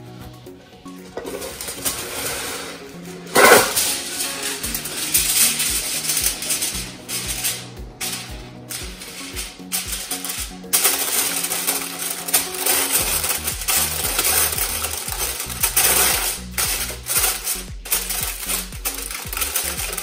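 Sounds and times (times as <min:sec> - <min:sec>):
background music with bass: 0:00.0 - 0:20.0
aluminium foil crinkling: 0:03.4 - 0:20.0.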